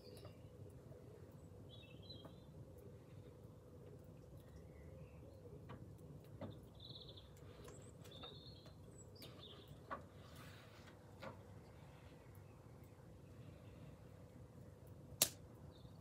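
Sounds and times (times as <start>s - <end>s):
garden birds chirping: 0.0s - 16.0s.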